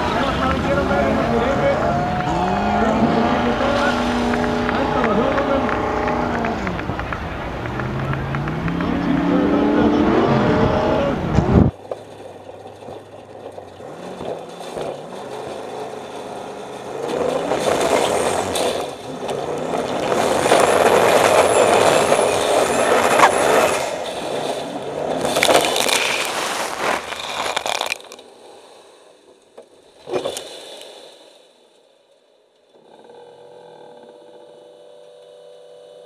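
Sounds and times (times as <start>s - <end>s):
buggy engine revving: 0.0s - 28.0s, 32.7s - 36.0s.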